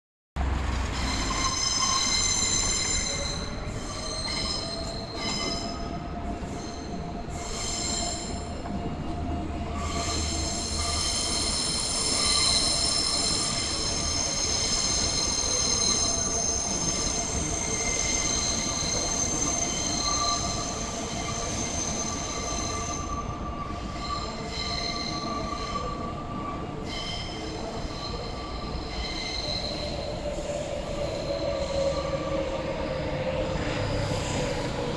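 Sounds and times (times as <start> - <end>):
train rolling rumble: 0.4 - 34.9
train wheel squeals: 0.8 - 34.9.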